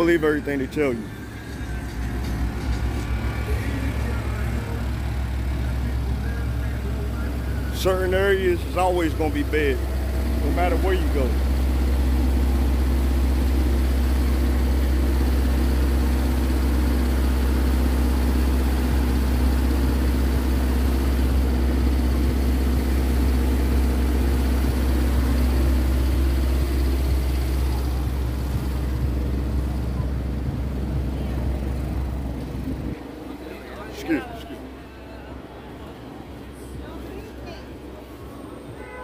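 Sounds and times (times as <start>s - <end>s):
constant hum: 0.0s - 39.0s
street traffic rumble: 0.0s - 39.0s.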